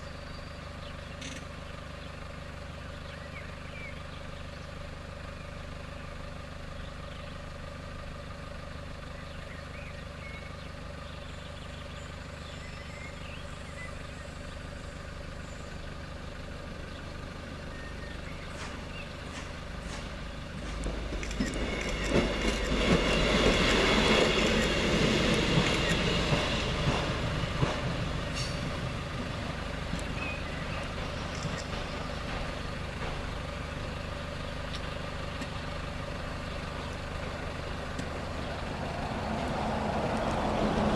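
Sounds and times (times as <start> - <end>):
train rumbling over rails: 0.0 - 40.9.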